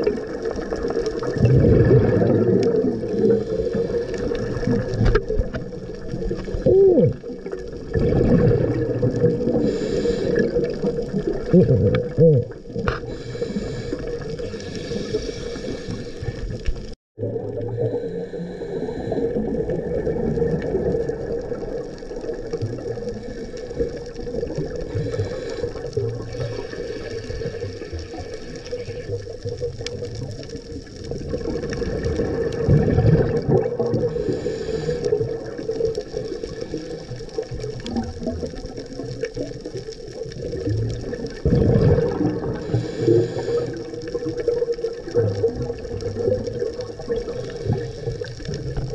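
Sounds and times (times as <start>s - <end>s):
muffled underwater water noise: 0.0s - 48.9s
scuba exhaust bubbles rushing: 0.0s - 48.9s.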